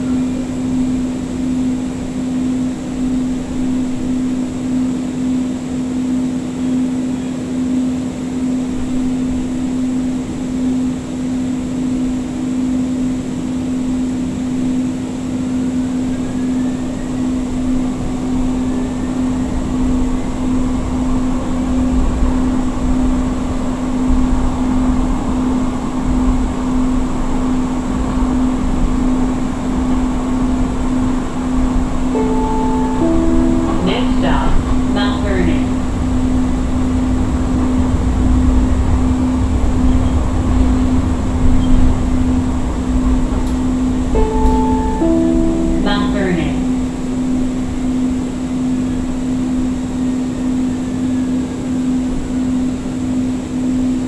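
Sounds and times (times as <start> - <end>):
train interior hum: 0.0 - 54.0.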